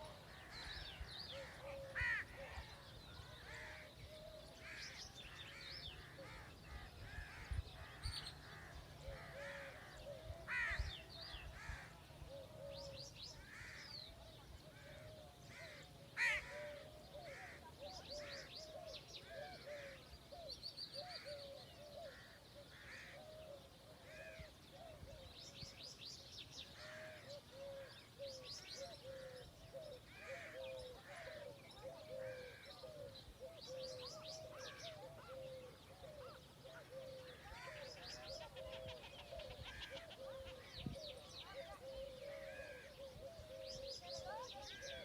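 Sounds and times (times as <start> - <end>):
birds calling: 0.0 - 45.0.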